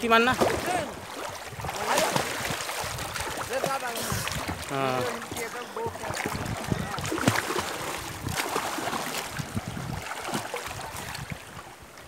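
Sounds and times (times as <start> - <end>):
water splashing from swimmer: 0.0 - 12.0.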